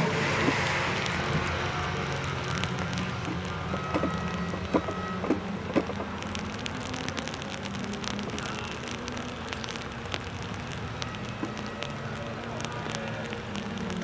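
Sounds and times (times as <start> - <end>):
distant race car engines: 0.0 - 14.0
rain drops ticking: 0.0 - 14.0.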